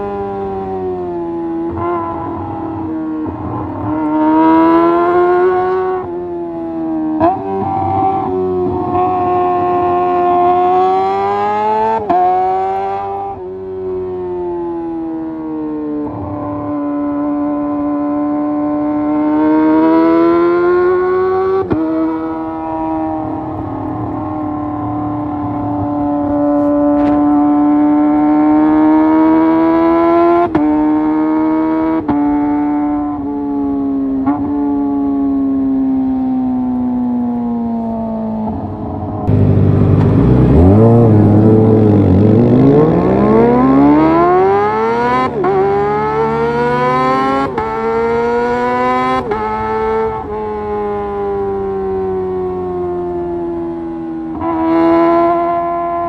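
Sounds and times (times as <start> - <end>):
motorcycle engine revving through gears: 0.0 - 35.1, 37.7 - 56.0.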